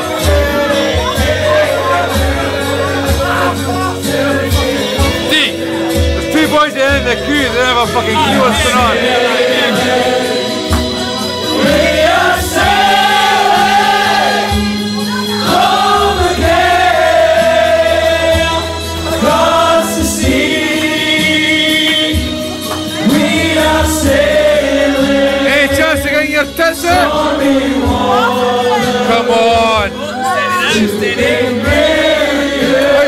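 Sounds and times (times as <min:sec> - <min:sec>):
backing music with bass line: 0:00.0 - 0:33.0
crowd singing along: 0:00.0 - 0:33.0.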